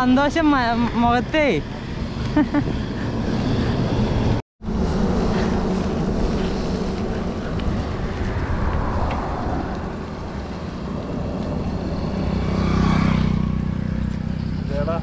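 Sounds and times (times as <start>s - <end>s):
road and vehicle rumble: 0.0s - 15.0s
wind on microphone: 0.4s - 12.6s.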